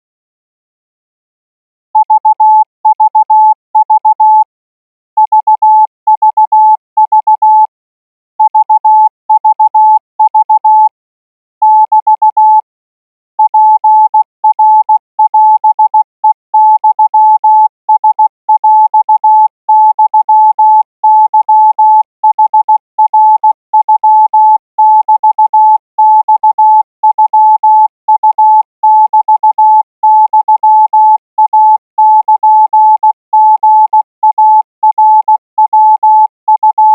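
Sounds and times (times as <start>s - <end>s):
morse code beeps: 2.0s - 4.5s, 5.2s - 7.7s, 8.4s - 10.9s, 11.6s - 12.6s, 13.4s - 36.9s.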